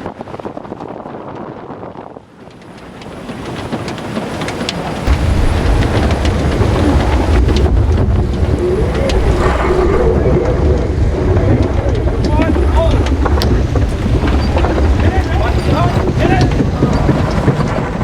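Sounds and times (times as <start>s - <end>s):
wind: 0.0s - 18.0s
rushing water: 2.6s - 18.0s.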